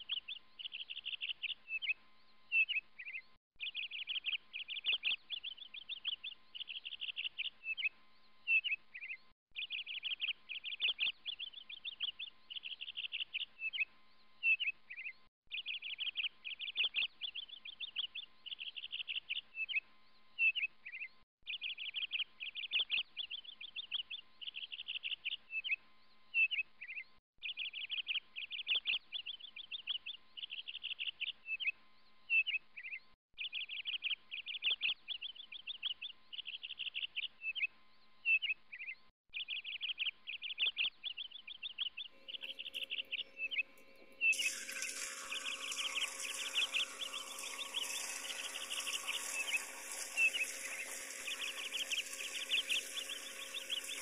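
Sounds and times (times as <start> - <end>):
songbird trills and chirps: 0.0 - 19.8, 20.4 - 54.0.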